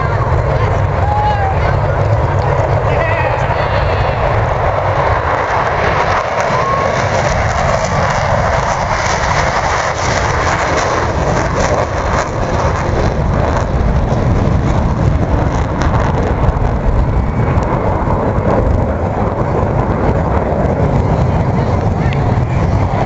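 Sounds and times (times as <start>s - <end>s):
jet engines overhead: 0.0s - 23.0s.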